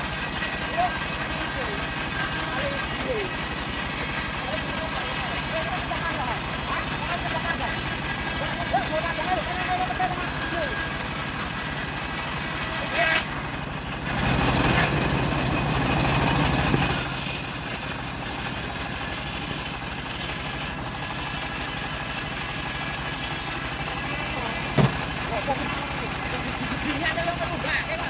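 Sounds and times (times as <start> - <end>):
chainsaw running: 0.0 - 28.0.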